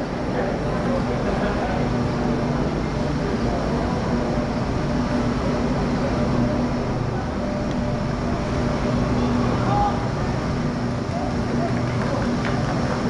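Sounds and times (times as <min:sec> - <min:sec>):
light rail train rumbling: 0:00.0 - 0:13.0
low hum: 0:00.0 - 0:13.0.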